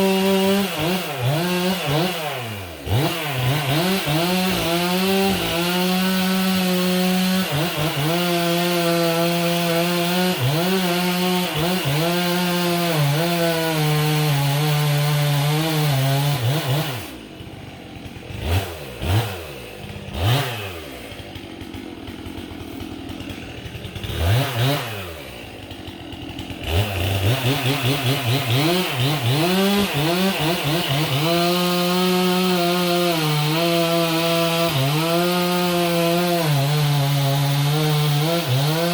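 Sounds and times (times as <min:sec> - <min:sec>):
chainsaw cutting into tree: 0:00.0 - 0:38.9
chainsaw idling and revving: 0:00.0 - 0:38.9.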